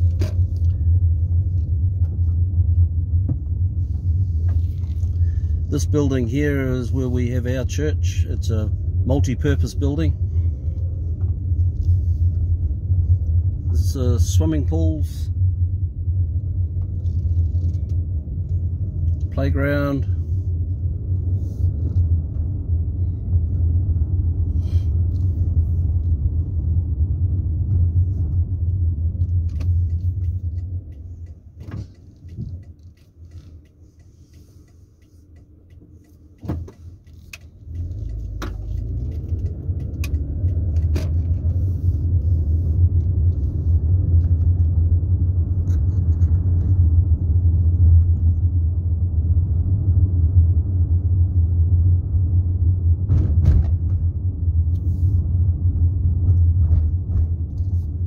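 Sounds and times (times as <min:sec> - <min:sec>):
car cabin rumble: 0:00.0 - 0:58.0.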